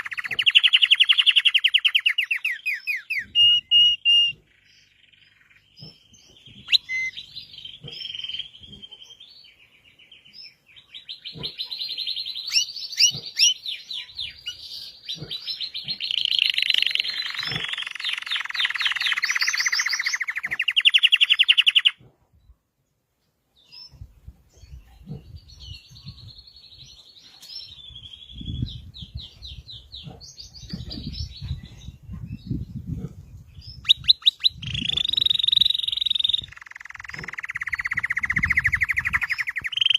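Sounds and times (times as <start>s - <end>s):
canary singing with trills: 0.0s - 22.4s, 23.6s - 39.9s.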